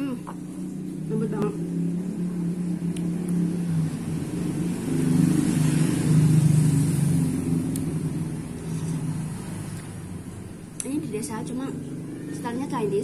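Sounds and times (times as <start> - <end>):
vehicle engine passing by: 0.0 - 13.0.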